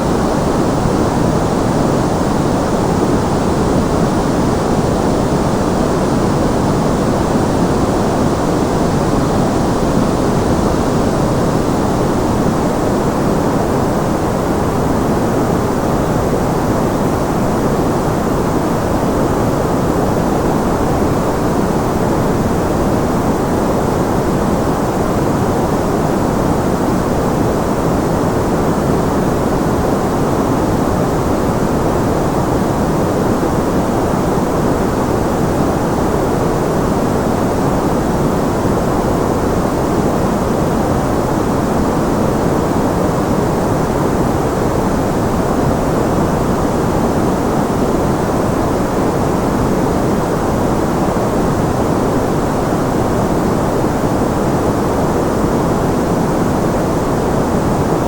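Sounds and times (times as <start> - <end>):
white noise: 0.0 - 58.0.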